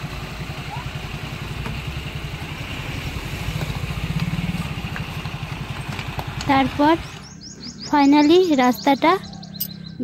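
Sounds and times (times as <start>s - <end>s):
car and truck engines passing: 0.0s - 10.0s.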